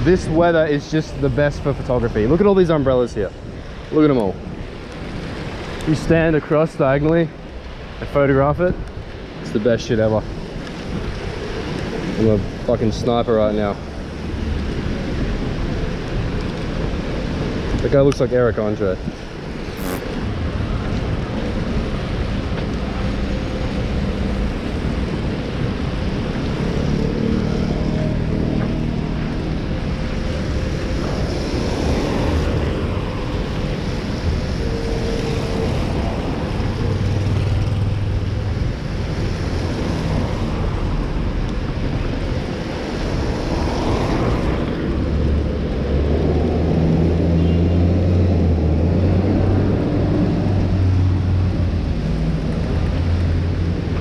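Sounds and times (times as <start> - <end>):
passing vehicles humming: 0.0 - 54.0
rain: 0.0 - 54.0
tyres hissing on wet road: 0.0 - 54.0.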